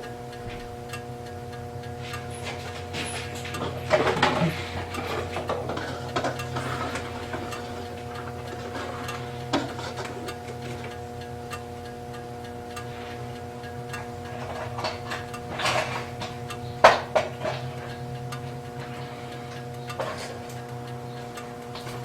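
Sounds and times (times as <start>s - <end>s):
faint ticking: 0.0s - 22.0s
steady hum: 0.0s - 22.0s.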